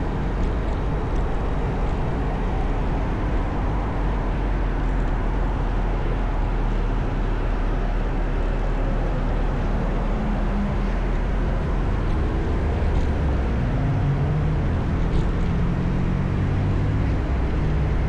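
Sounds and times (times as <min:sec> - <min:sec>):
low engine drone: 0:00.0 - 0:18.0
wind and road noise: 0:00.0 - 0:18.0.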